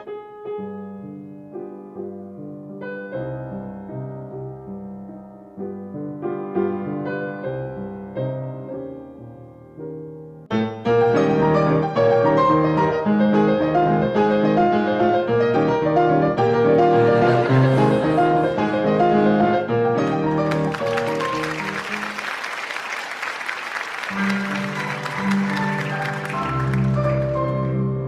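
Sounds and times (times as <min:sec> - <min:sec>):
solo piano: 0:00.0 - 0:22.3, 0:24.0 - 0:28.0.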